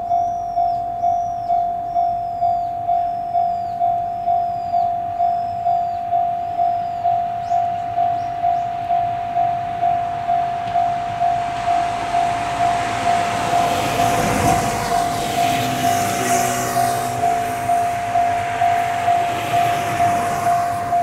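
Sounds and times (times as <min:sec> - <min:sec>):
electric train approaching: 0:00.0 - 0:21.0
level crossing warning bell: 0:00.0 - 0:21.0.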